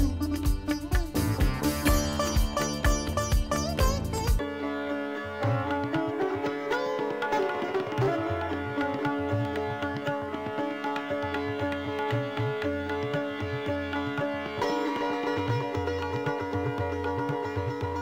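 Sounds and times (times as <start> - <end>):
plucked-string melody: 0.0 - 18.0.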